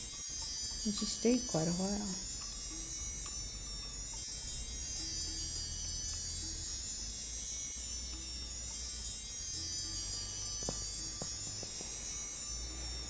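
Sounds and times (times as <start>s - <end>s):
shimmering synth bed: 0.0s - 13.0s
wind chime tones: 0.0s - 13.0s.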